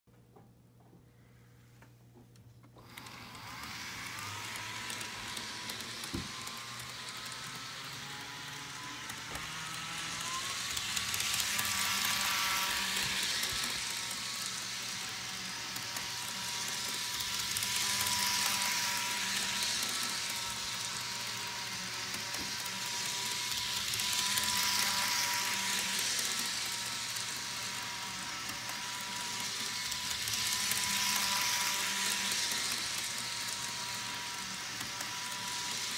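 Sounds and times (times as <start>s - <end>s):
model train motor whine: 2.8s - 35.9s
wheels rushing on rails: 2.8s - 35.9s.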